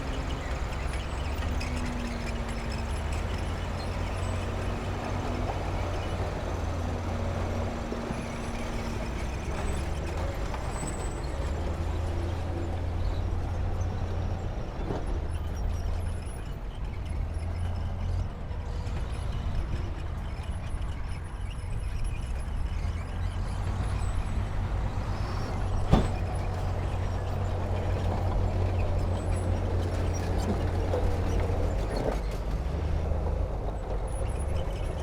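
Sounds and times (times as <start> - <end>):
diesel machinery engine drone: 0.0 - 35.0.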